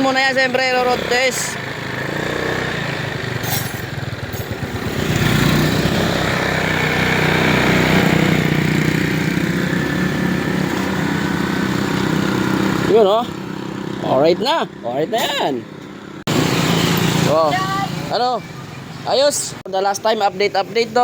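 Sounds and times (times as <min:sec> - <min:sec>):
scooter engine running: 0:00.0 - 0:19.3.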